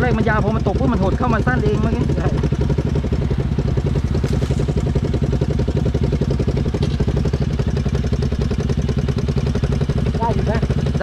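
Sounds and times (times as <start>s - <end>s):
engine running with fast putter: 0.0s - 11.0s.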